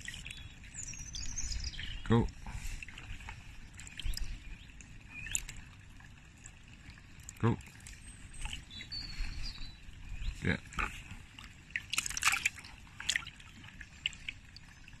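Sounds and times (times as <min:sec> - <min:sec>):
water sloshing in a bucket: 0:00.0 - 0:15.0.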